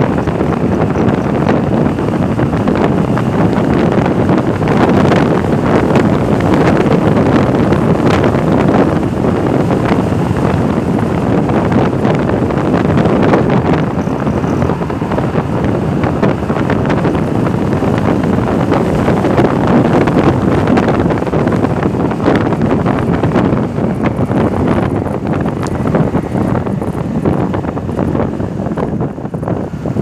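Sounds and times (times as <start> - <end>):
road noise: 0.0 - 30.0
scooter engine running: 0.0 - 30.0
wind buffeting microphone: 0.0 - 30.0.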